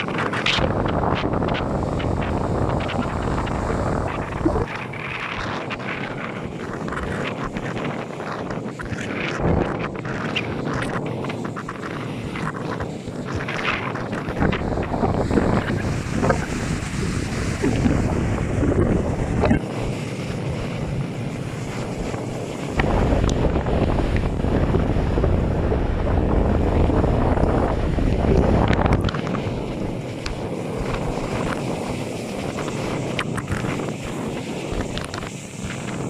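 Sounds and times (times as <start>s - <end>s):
waves on rough sea: 0.0s - 36.0s
wind buffeting microphone: 0.0s - 36.0s.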